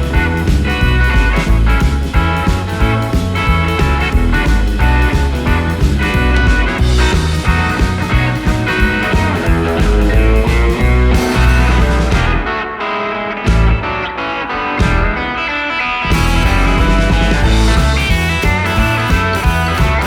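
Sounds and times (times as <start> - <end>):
guitar rock music: 0.0 - 20.0.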